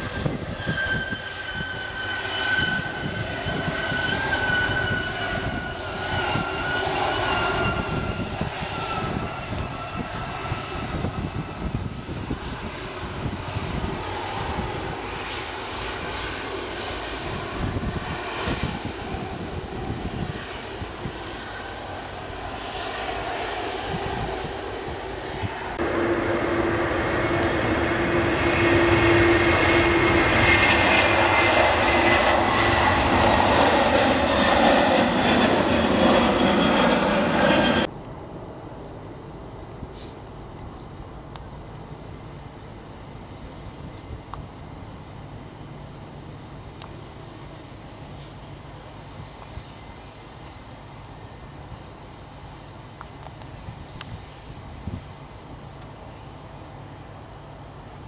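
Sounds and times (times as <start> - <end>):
jet engines rumbling: 0.0 - 58.0
jet plane taking off: 0.0 - 58.0.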